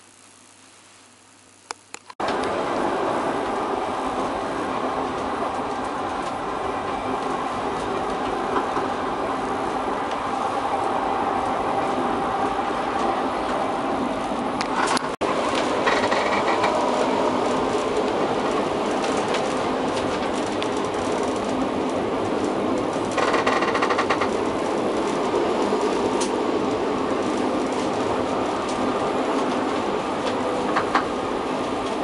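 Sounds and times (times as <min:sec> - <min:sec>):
tram wheels rumbling on rails: 0:02.2 - 0:32.0.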